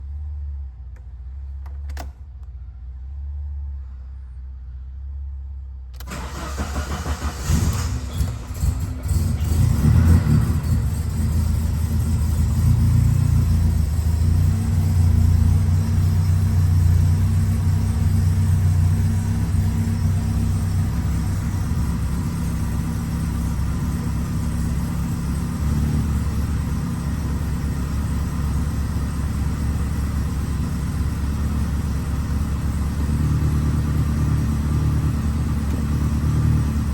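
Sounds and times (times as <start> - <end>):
car engine idling: 6.0 - 36.9.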